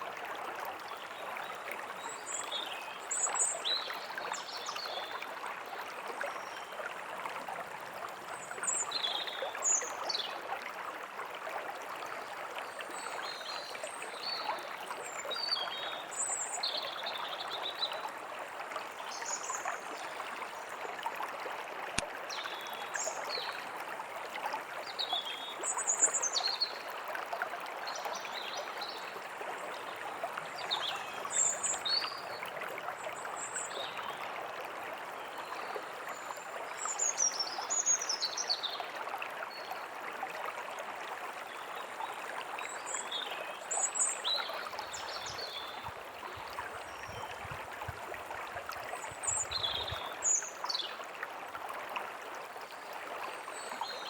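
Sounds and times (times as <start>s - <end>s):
forest stream running: 0.0s - 54.0s.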